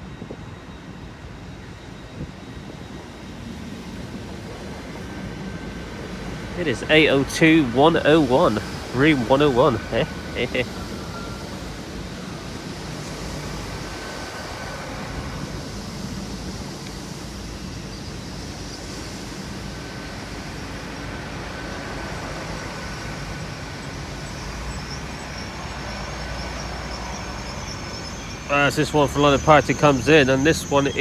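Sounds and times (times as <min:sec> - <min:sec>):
faint high whine: 0:00.0 - 0:31.0
train engines and wheels rumbling: 0:00.0 - 0:31.0.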